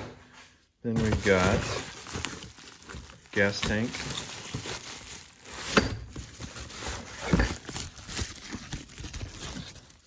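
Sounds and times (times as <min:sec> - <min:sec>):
packaging rustling and scraping: 0:00.9 - 0:10.0.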